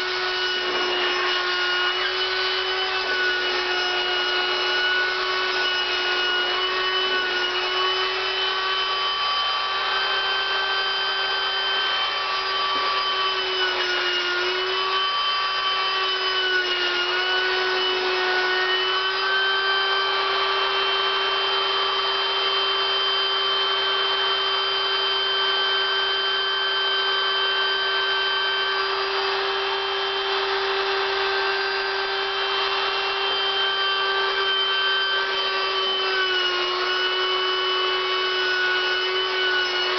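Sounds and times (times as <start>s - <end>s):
electric air pump whining: 0.0s - 39.9s.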